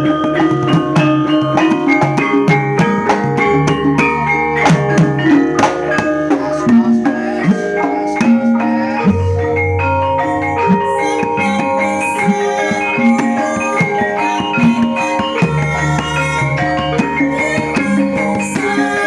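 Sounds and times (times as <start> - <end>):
drum strokes: 0.0 - 19.0
struck ringing metal notes: 0.0 - 19.0.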